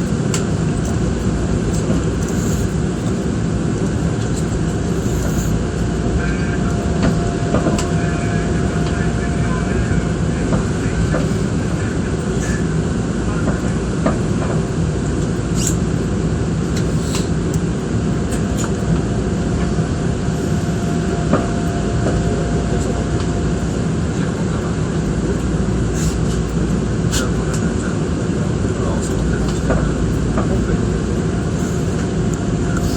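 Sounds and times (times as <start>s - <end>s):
electric train hum and rumble: 0.0s - 32.9s.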